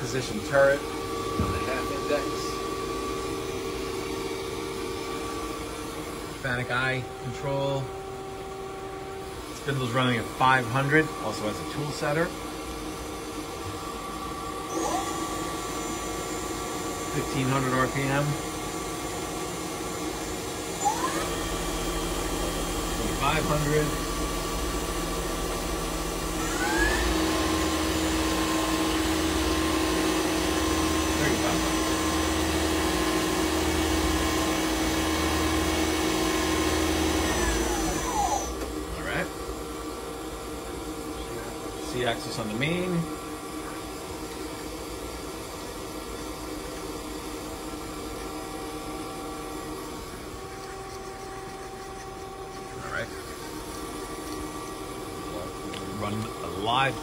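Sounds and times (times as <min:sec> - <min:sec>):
lathe spindle whine: 0:00.0 - 0:57.0.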